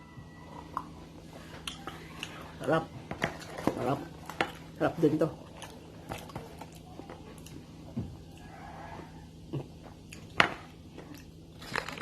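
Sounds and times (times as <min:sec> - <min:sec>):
quiet eating sounds: 0:00.0 - 0:12.0.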